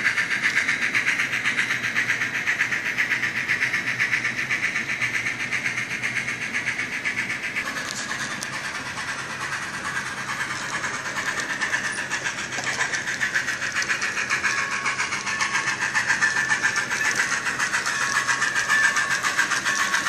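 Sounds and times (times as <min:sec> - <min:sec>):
steam locomotive chuffing through speaker: 0:00.0 - 0:20.0.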